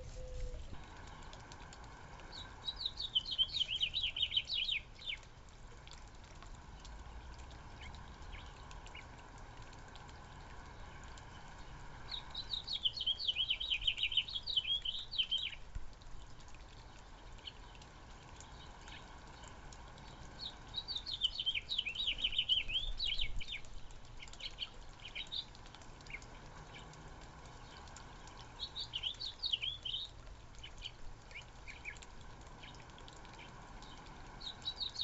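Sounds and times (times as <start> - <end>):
small songbird singing: 2.3 - 5.3, 7.8 - 9.2, 10.2 - 15.6, 16.8 - 35.0.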